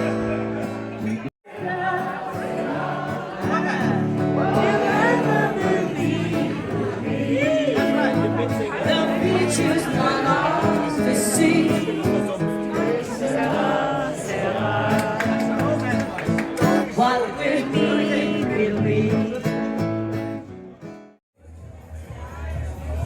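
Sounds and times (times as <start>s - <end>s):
acoustic guitar: 0.0s - 21.2s.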